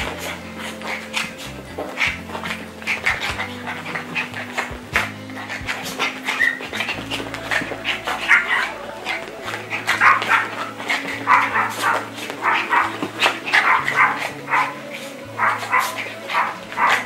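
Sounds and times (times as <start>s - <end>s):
puppies barking and yipping: 0.0s - 17.0s.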